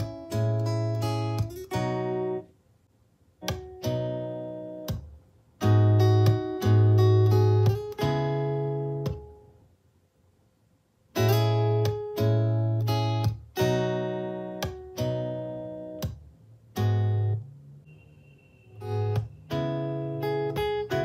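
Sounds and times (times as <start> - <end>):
plucked acoustic guitar beat: 0.0 - 2.6, 3.4 - 9.6, 11.1 - 17.7, 18.8 - 21.0.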